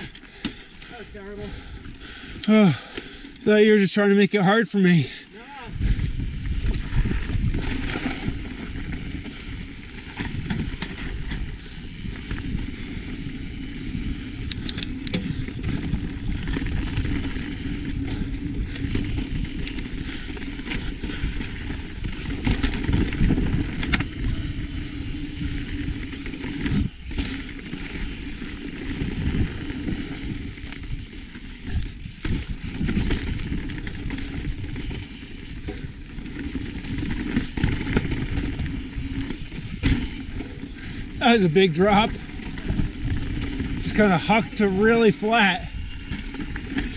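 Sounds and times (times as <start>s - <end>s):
bike rattling over bumps: 0.0s - 3.9s, 5.0s - 46.9s
tyres running over dirt and rock: 5.4s - 46.9s
wind rushing over microphone: 5.6s - 44.8s.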